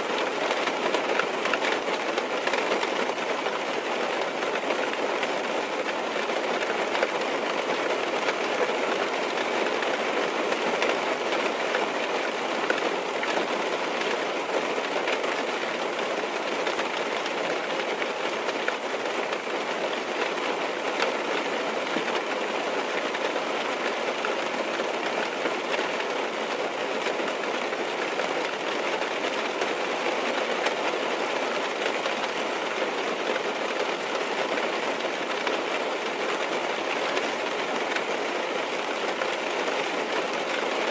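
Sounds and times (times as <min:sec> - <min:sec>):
rain on car roof: 0:00.0 - 0:40.9.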